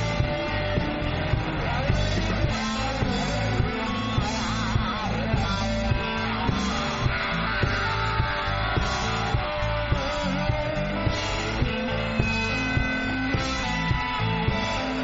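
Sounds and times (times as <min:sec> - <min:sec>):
bending lead guitar notes: 0:00.0 - 0:15.0
blues-rock band playing live: 0:00.0 - 0:15.0
steady drum beat: 0:00.0 - 0:15.0.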